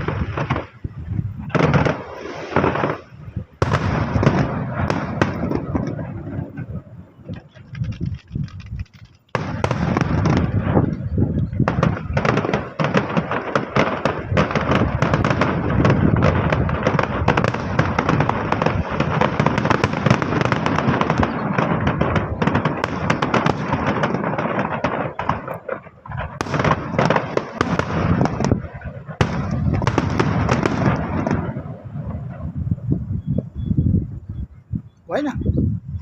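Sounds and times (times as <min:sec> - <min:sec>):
fireworks crackling bangs: 0:00.0 - 0:33.5.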